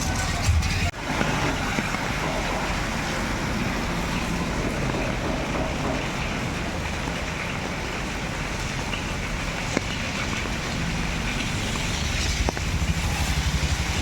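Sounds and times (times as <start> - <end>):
heavy rain on flooded street: 0.0 - 14.0.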